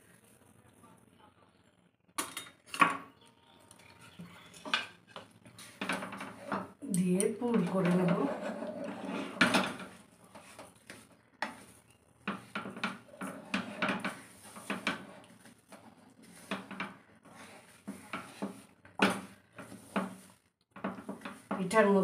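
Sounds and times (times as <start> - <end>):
wooden spatula scraping a pan: 4.2 - 22.0.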